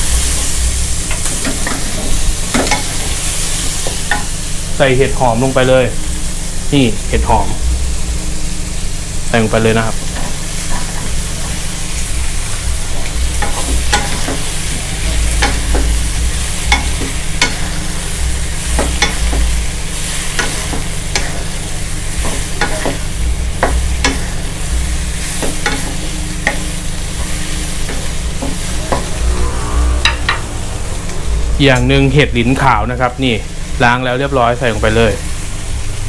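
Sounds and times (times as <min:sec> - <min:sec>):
food sizzling in hot oil: 0:00.0 - 0:36.0
steady low hum: 0:00.0 - 0:36.0.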